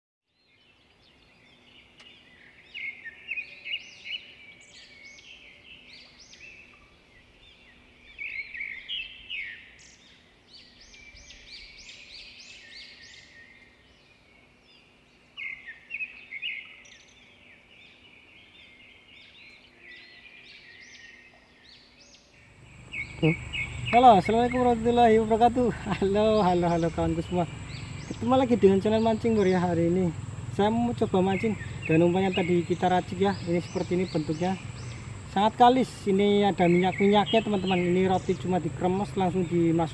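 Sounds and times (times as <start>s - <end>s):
birds chirping: 0.3s - 39.9s
faint steady background noise: 0.3s - 39.9s.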